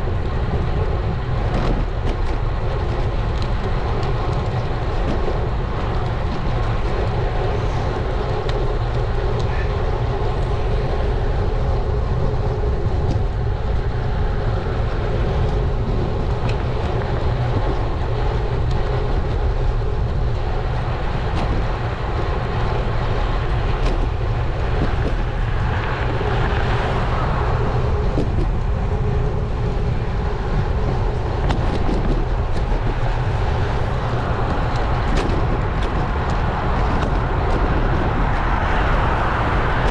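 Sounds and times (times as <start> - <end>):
bike tyre noise: 0.0 - 39.9
wind rushing over microphone: 0.0 - 39.9.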